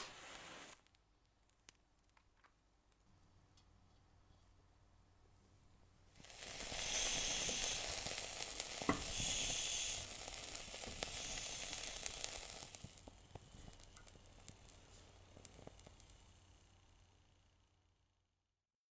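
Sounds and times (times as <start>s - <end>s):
hissing with fine crackles: 0.0s - 3.1s, 5.5s - 18.0s.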